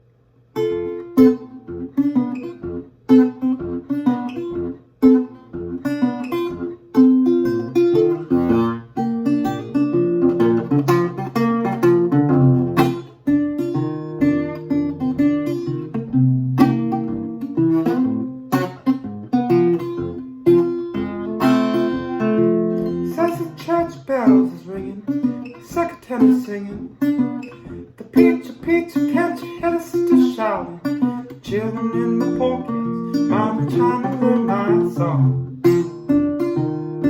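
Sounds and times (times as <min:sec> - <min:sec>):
acoustic guitar blues playing: 0:00.0 - 0:37.0.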